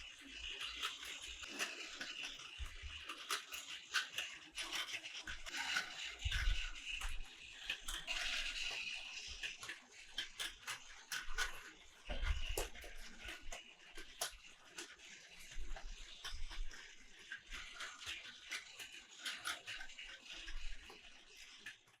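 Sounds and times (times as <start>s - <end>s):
plastic toy pieces clicking: 0.0s - 22.0s.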